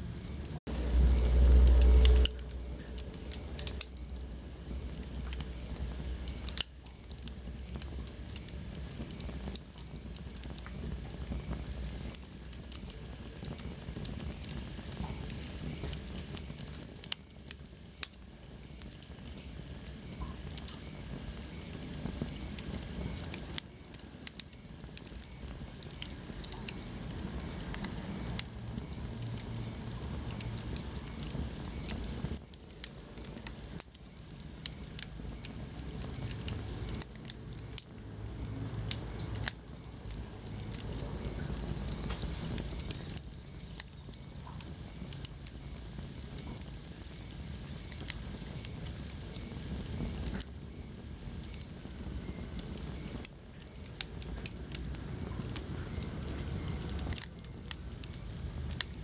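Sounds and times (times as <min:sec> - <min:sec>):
fire popping and crackling: 0:00.0 - 0:59.0
fire rumbling: 0:00.0 - 0:59.0.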